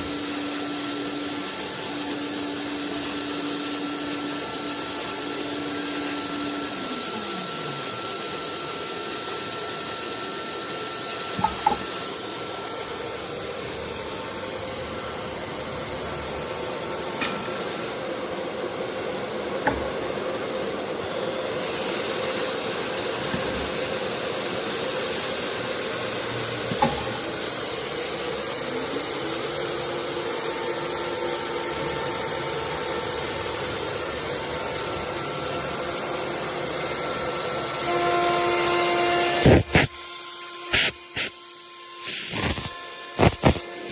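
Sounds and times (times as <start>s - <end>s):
spindle whine: 0.0s - 39.9s
hiss of air and machinery: 0.0s - 43.9s.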